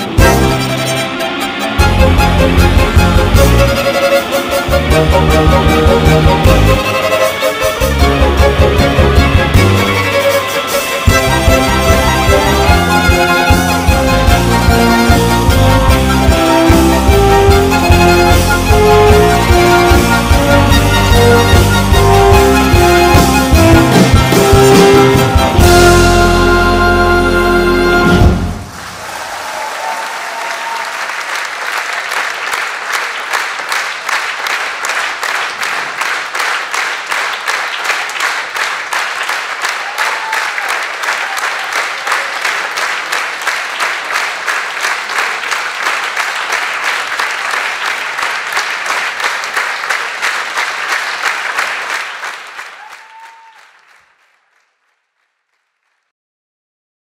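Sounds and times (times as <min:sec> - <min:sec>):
audience applauding: 0:00.0 - 0:56.1.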